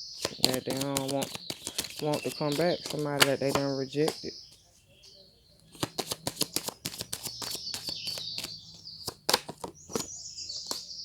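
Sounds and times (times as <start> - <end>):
high chirping: 0.0 - 11.0
cards being shuffled: 0.2 - 4.3, 5.7 - 10.8.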